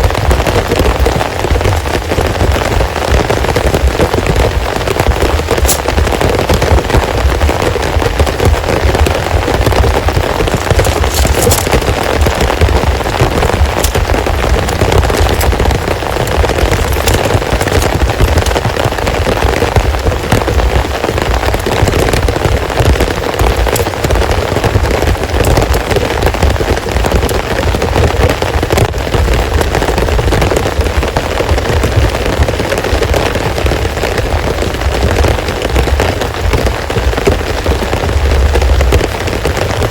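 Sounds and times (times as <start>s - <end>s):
heavy rain falling: 0.0s - 39.9s
raindrop impacts crackling: 0.0s - 39.9s.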